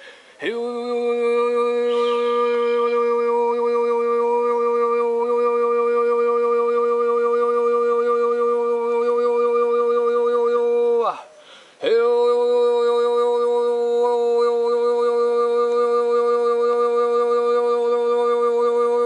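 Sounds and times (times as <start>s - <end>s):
man overtone singing: 0.0s - 19.0s.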